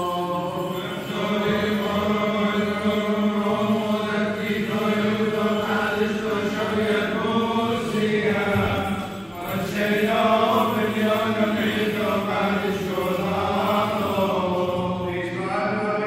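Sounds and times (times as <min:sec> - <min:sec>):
men chanting: 0:00.0 - 0:16.0.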